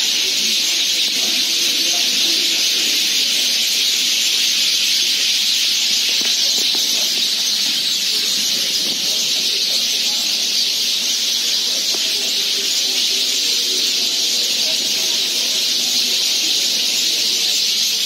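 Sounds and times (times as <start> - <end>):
flock of sparrows chirping: 0.0 - 18.0.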